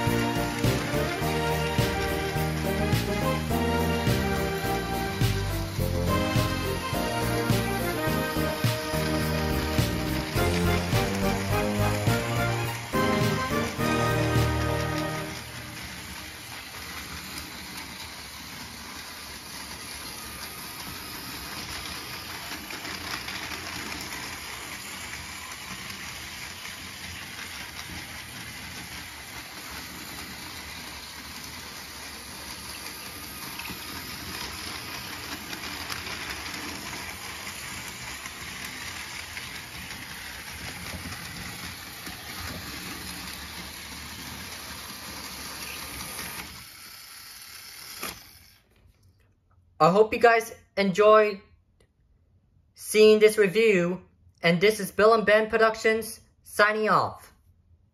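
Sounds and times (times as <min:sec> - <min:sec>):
wheels running on plastic rails: 0:00.0 - 0:49.0
toy train electric motor whirring: 0:00.0 - 0:49.1.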